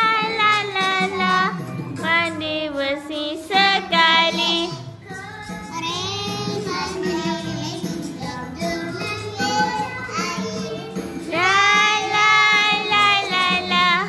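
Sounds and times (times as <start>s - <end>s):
backing music: 0.0s - 14.0s
child singing: 0.0s - 14.0s.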